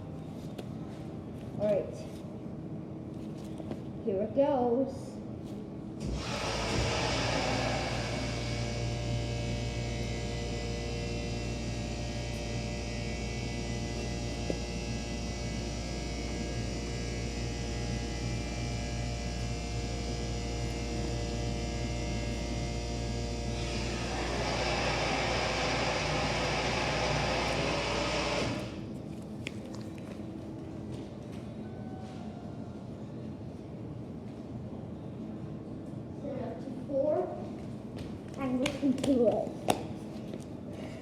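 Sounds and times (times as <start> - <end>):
elevator machinery humming and whining: 0.0 - 41.0.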